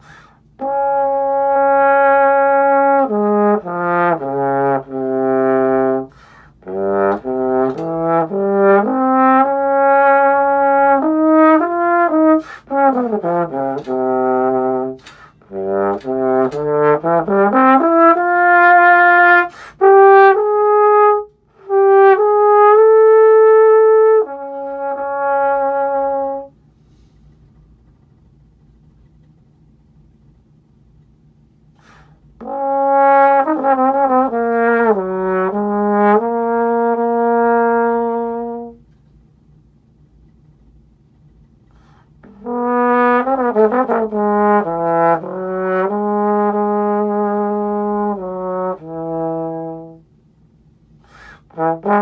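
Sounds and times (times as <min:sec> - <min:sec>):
solo trombone: 0:00.0 - 0:26.7, 0:31.7 - 0:39.0, 0:41.6 - 0:50.2, 0:50.9 - 0:52.0.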